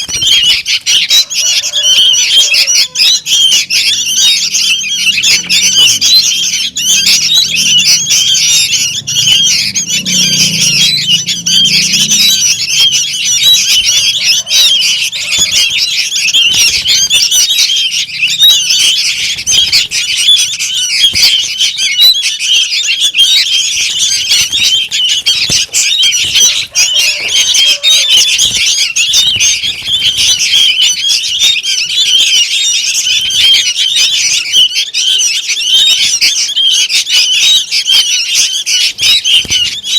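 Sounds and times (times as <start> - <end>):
young birds chattering and begging: 0.0 - 39.9.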